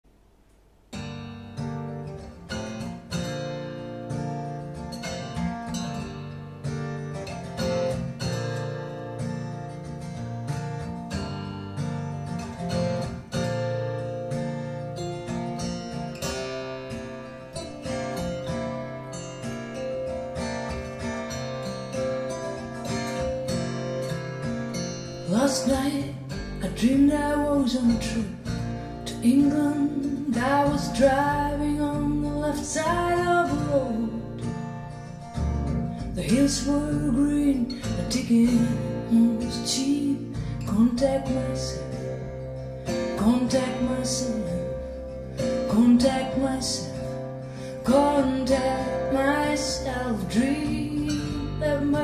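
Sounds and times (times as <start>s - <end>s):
acoustic guitar music: 0.0s - 52.0s.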